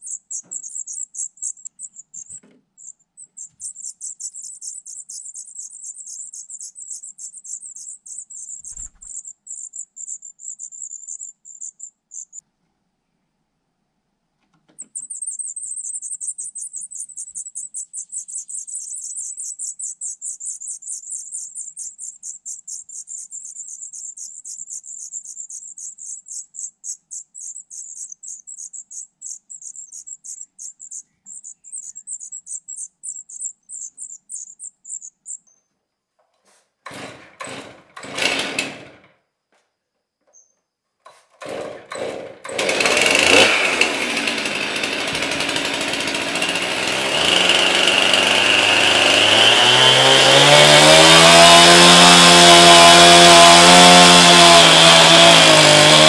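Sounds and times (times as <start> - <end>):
nestlings high-pitched chirping: 0.0 - 12.4, 14.8 - 35.7, 42.6 - 56.0.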